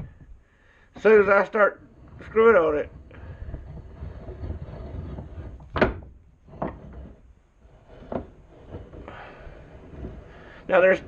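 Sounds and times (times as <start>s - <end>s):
vise screw turning with rumble: 1.0s - 11.0s.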